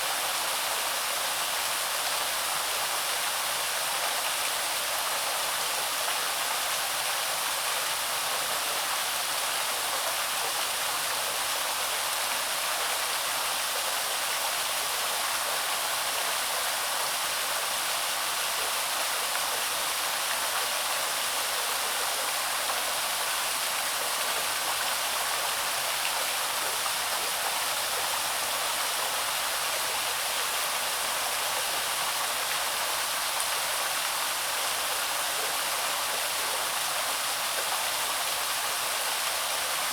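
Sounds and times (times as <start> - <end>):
small waterfall pouring: 0.0 - 39.9.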